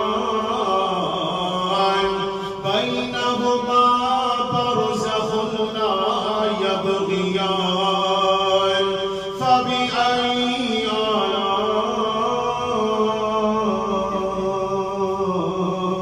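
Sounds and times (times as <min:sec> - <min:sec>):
man chanting recitation: 0:00.0 - 0:16.0.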